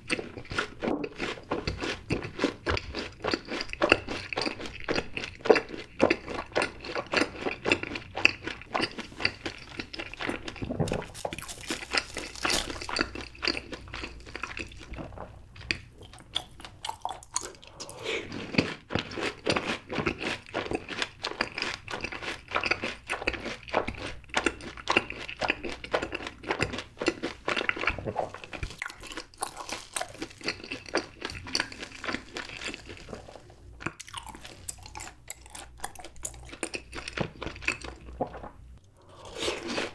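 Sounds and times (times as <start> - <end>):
crunchy chewing: 0.1 - 38.4.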